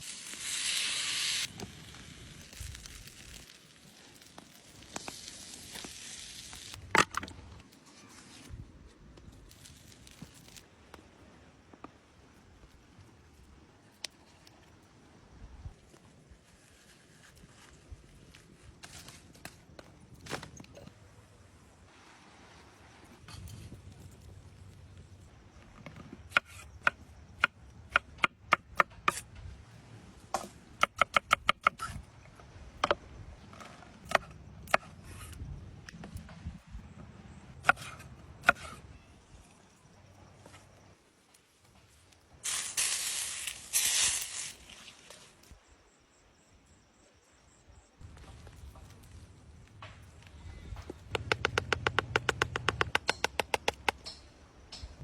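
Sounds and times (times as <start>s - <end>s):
fire crackling and hissing: 0.0s - 30.8s, 31.7s - 52.5s.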